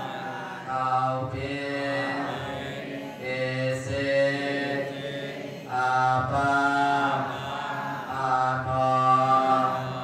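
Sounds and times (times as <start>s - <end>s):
man chanting: 0.0s - 10.0s.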